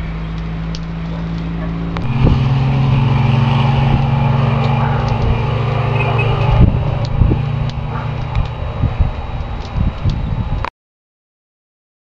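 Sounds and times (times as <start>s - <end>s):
car engine humming: 0.0s - 10.6s
road noise: 0.0s - 10.7s.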